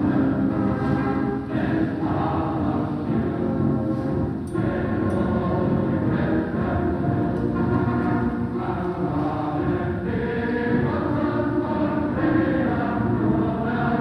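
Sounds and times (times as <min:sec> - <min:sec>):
choir singing sustained chords: 0:00.0 - 0:14.0.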